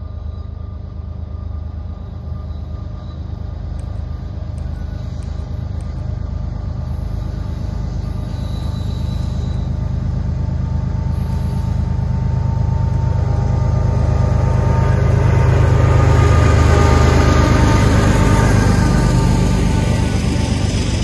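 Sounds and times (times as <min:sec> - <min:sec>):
diesel locomotive engine rumble: 0:00.0 - 0:21.0
wheel and rail noise: 0:00.0 - 0:21.0.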